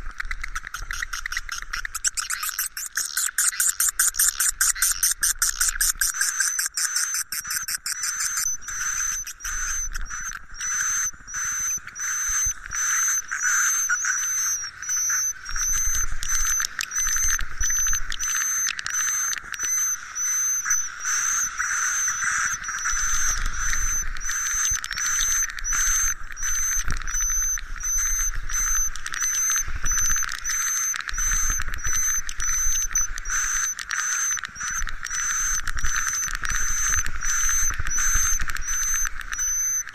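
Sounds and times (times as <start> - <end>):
swiftlets twittering: 1.2 - 39.9.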